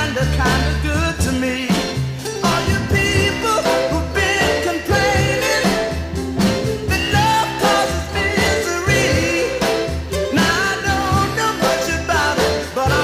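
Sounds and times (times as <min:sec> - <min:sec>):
song with singer bass and beat: 0:00.0 - 0:13.0.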